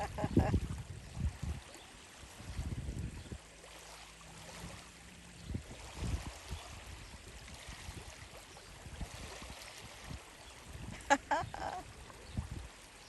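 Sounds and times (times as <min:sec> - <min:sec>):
water splashing and lapping: 0:00.0 - 0:13.0.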